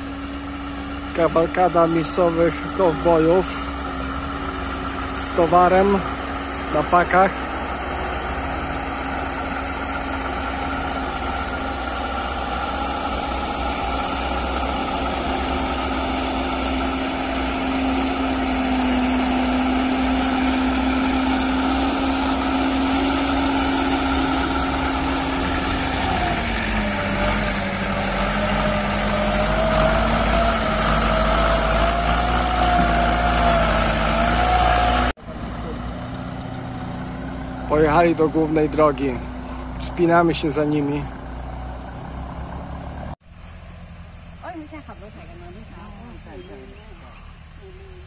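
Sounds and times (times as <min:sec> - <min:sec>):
diesel tractor engines running: 0:00.0 - 0:48.0.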